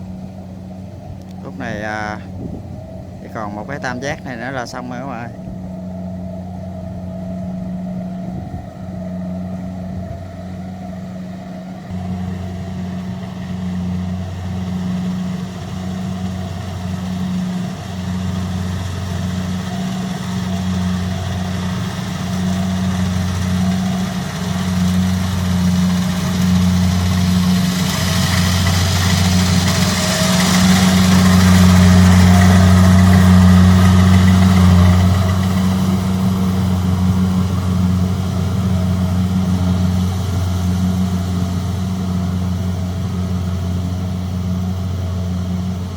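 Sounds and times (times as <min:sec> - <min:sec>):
combine harvester engine humming: 0:00.0 - 0:45.9
rushing noise: 0:00.0 - 0:45.9.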